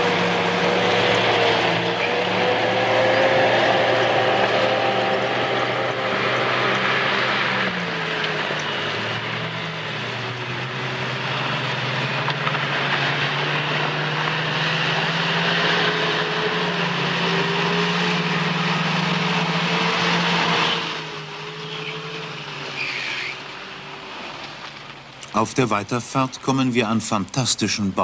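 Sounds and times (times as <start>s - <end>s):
off-road vehicle engine running: 0.0s - 28.0s
water splashing around wheels: 0.0s - 28.0s.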